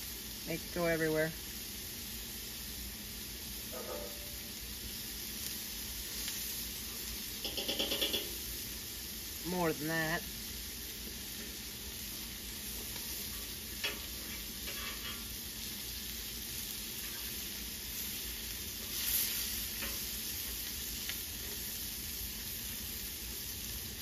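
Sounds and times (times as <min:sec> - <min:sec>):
fish sizzling on a griddle: 0:00.0 - 0:24.0.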